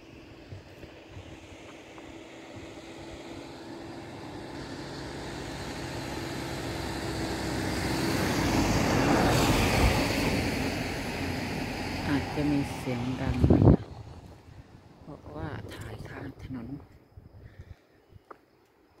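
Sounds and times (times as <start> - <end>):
road vehicle passing: 0.0 - 15.4.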